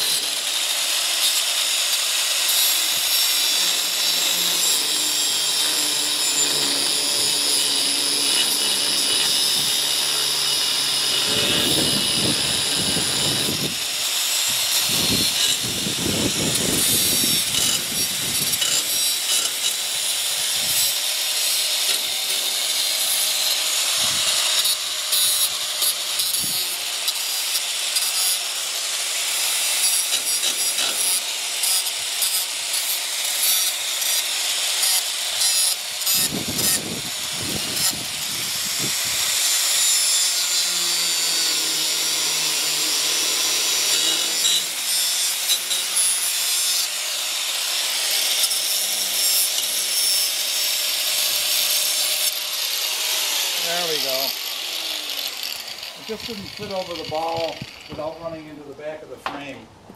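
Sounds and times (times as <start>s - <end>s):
angle grinder grinding steel: 0.0s - 59.2s.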